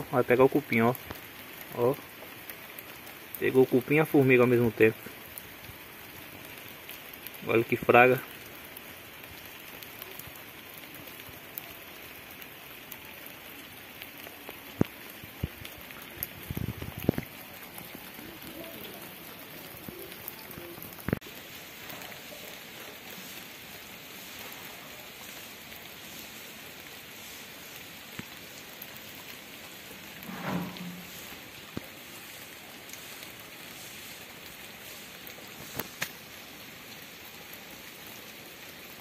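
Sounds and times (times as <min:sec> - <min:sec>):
light rain on pavement: 0:00.0 - 0:39.0.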